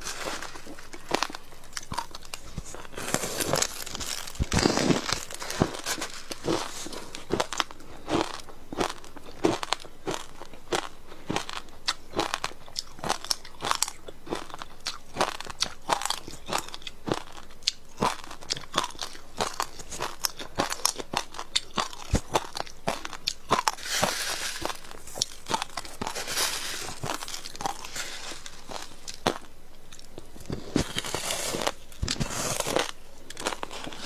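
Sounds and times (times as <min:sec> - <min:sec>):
ice being bitten and chewed: 0:00.0 - 0:34.0
ice crushed between teeth: 0:00.0 - 0:34.0.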